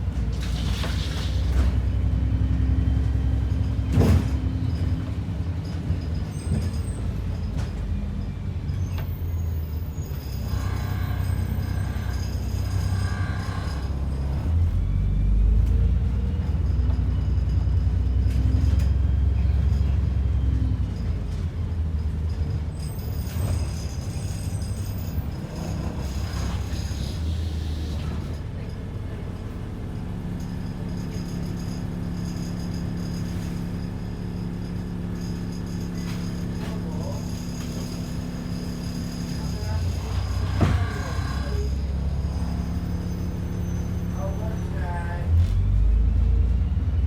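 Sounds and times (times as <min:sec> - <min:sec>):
bus engine rumble: 0:00.0 - 0:47.0.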